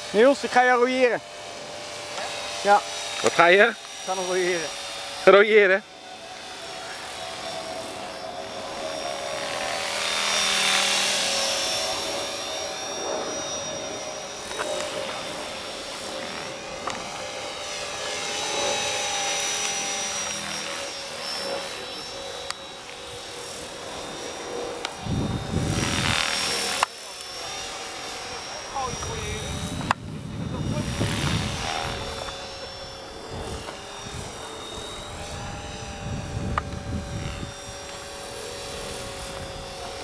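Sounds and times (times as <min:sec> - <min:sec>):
model helicopter high-pitched drone: 0:00.0 - 0:40.0.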